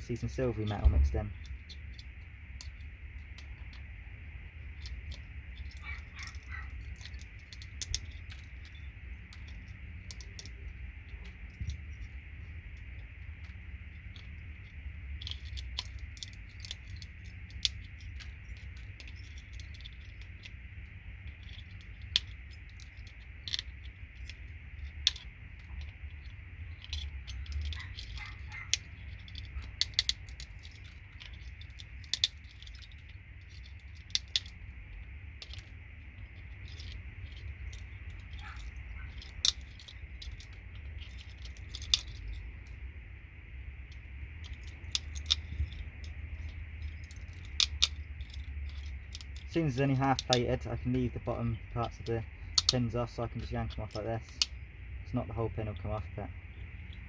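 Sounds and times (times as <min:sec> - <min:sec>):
low steady hum: 0:00.0 - 0:57.0
sharp clicks and metallic jingles: 0:00.0 - 0:57.0.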